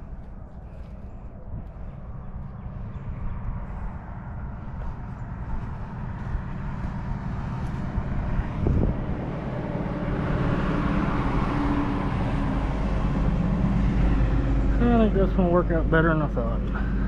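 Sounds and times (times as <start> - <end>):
loader engine running: 0.0 - 17.0.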